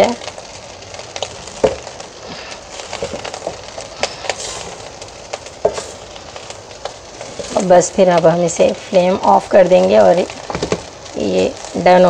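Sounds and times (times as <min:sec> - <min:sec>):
rice sizzling: 0:00.0 - 0:12.0.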